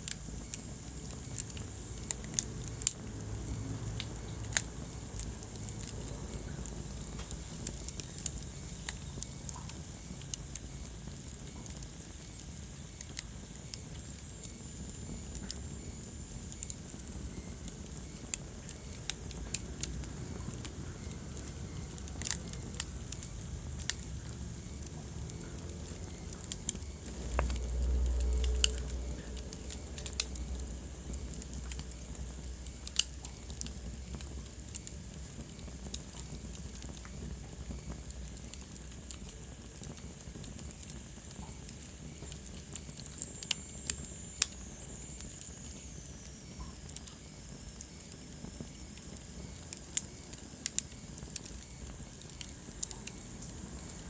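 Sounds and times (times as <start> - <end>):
low rumble of burning: 0.0 - 54.0
wood fire crackling: 0.0 - 54.0.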